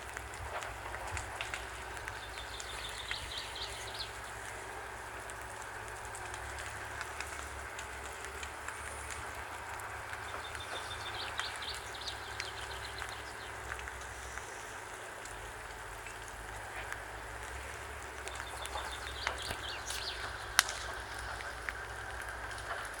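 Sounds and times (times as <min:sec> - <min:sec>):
campfire hissing and crackling: 0:00.0 - 0:23.0.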